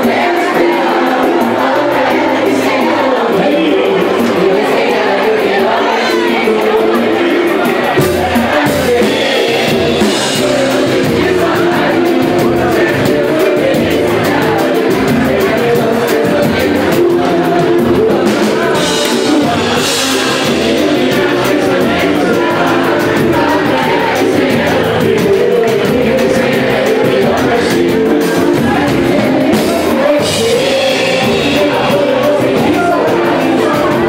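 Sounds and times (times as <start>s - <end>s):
fast percussion beat: 0.0s - 34.0s
person singing: 0.0s - 34.0s
samba band playing: 0.0s - 34.0s.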